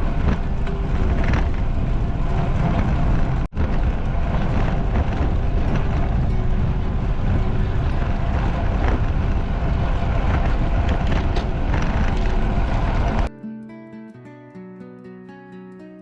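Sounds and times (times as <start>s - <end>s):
tyre and road noise: 0.0s - 13.3s
wind rushing over microphone: 0.0s - 13.3s
acoustic guitar music: 0.0s - 16.0s.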